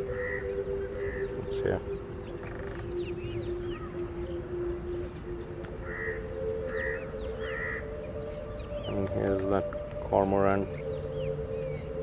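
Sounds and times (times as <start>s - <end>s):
birds chirping: 0.0s - 12.0s
harsh bird calls: 0.0s - 12.0s.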